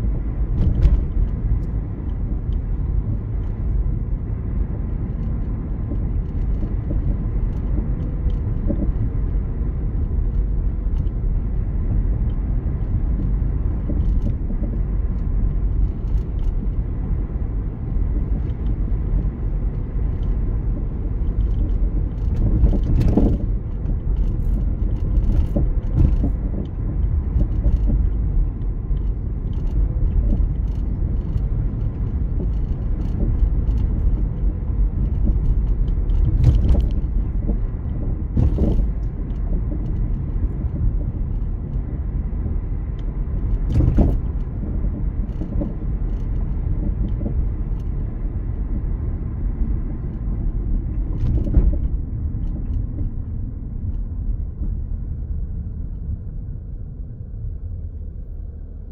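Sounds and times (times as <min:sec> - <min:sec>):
car engine and tyre rumble: 0:00.0 - 0:58.9.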